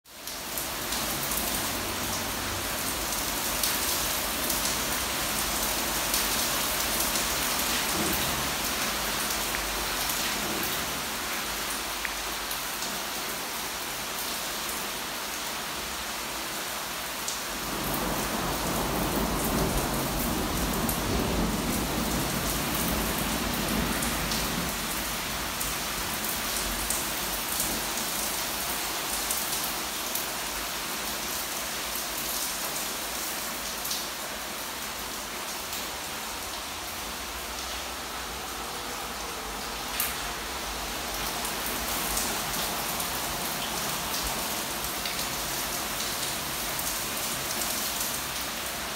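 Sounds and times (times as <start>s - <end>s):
heavy rain pouring: 0.1s - 48.9s.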